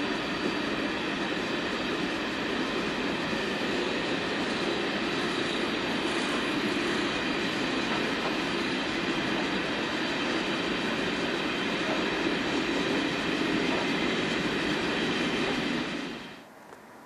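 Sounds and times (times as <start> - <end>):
train wagons rolling on rails: 0.0 - 16.9.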